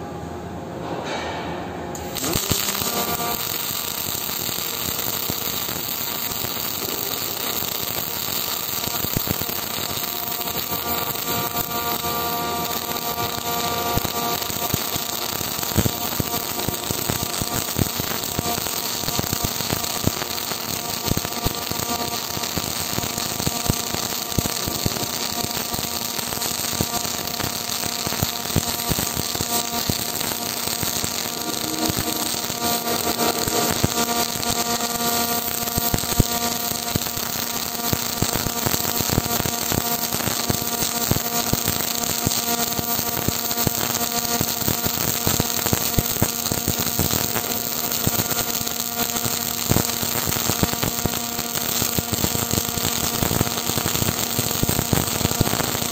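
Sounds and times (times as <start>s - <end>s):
welding arc crackling: 1.9s - 55.9s.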